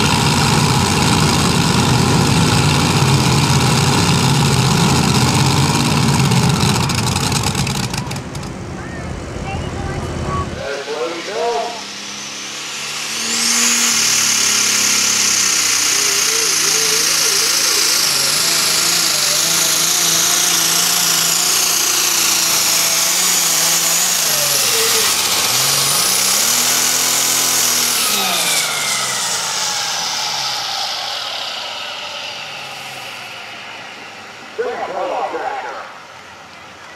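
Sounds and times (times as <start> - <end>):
tractor engine at full throttle: 0.0 - 36.9
turbo whine: 0.0 - 36.9.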